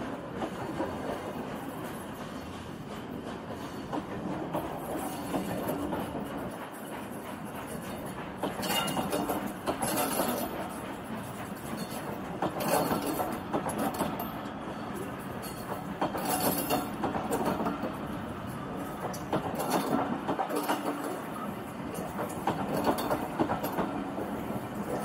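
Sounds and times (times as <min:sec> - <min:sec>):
train wheels clattering over rail joints: 0:00.0 - 0:25.0.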